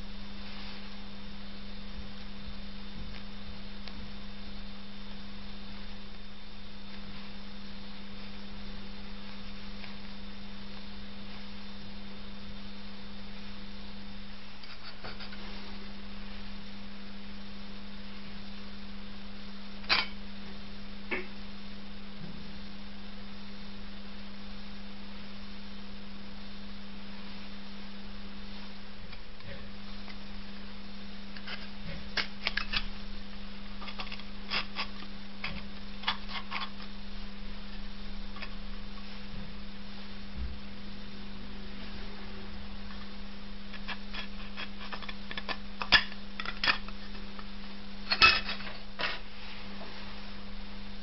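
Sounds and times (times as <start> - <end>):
low electrical hum: 0.0 - 51.0
steady hiss: 0.0 - 51.0.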